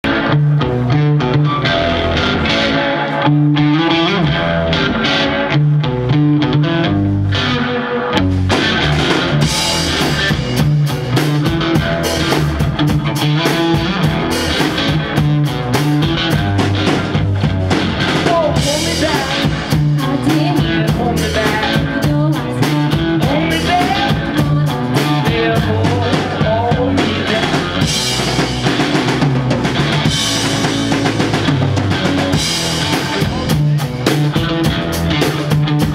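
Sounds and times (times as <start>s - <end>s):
drum kit: 0.0s - 35.9s
electric guitar riff: 0.0s - 35.9s.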